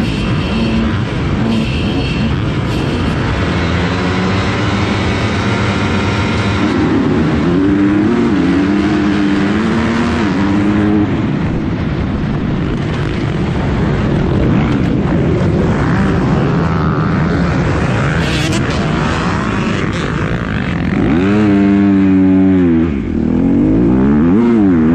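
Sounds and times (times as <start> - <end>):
motocross bike engine: 0.0 - 24.9.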